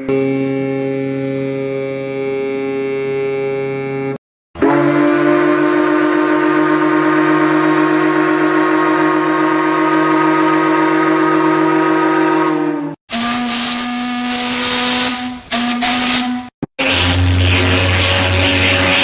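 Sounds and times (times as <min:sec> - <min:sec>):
lower-pitched ship's whistle: 0:00.0 - 0:19.0
ship's whistle blast: 0:00.0 - 0:19.0.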